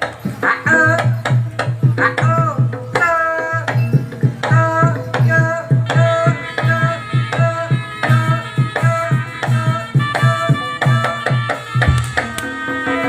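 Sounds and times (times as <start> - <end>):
loud drum rhythm: 0.0 - 13.0.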